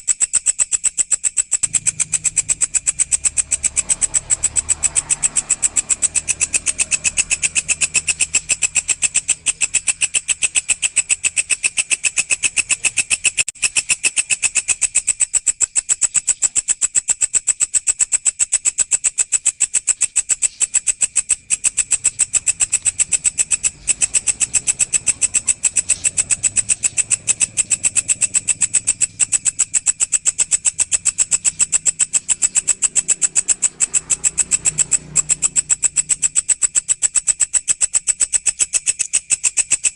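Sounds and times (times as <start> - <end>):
grasshopper stridulating: 0.0 - 39.9.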